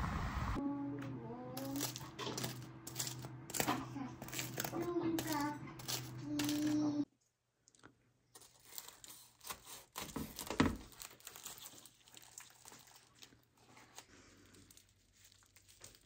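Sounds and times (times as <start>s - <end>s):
pastry crust and paper crackling: 1.6s - 6.9s, 8.4s - 16.0s.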